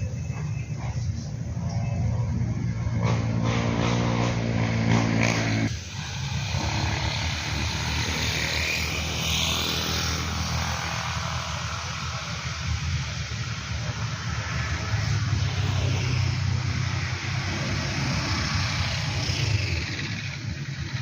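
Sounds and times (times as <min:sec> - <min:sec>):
vehicle engine humming: 0:00.0 - 0:21.0
vehicle passing rush: 0:00.0 - 0:21.0.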